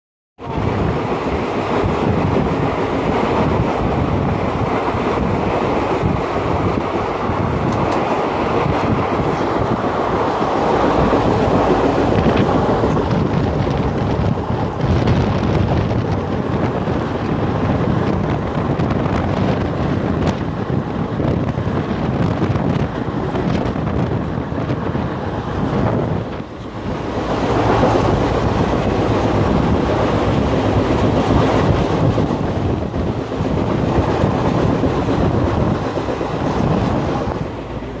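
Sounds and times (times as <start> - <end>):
train wheels rumbling on rails: 0.4 - 38.0
wind buffeting microphone: 0.4 - 38.0.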